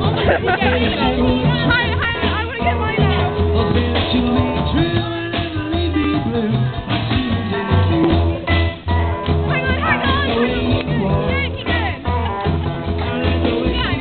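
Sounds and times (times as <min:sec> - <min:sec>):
music with pulsing bass line: 0:00.0 - 0:14.0.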